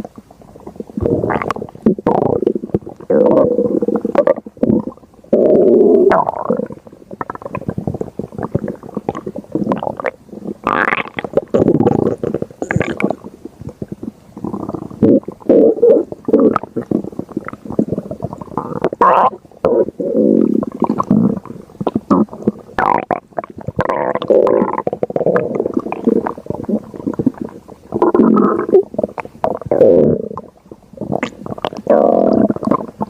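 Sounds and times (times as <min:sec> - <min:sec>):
stomach growling and gurgling: 0:00.0 - 0:33.0.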